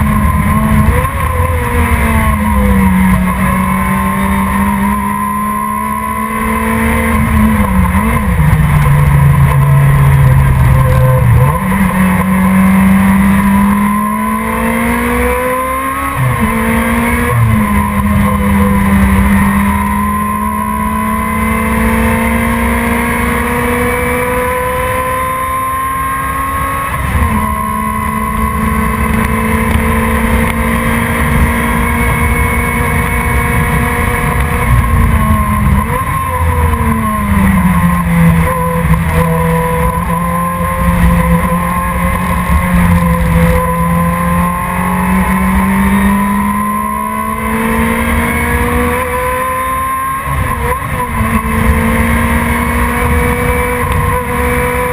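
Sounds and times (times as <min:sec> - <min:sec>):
race car engine running hard: 0:00.0 - 0:54.9
road and wind noise: 0:00.0 - 0:54.9.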